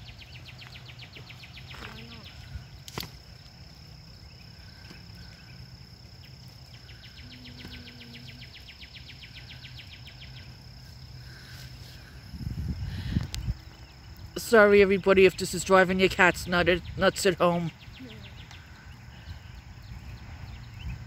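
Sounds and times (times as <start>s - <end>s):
distant traffic hum: 0.0s - 21.0s
high-pitched insect whine: 0.0s - 21.0s.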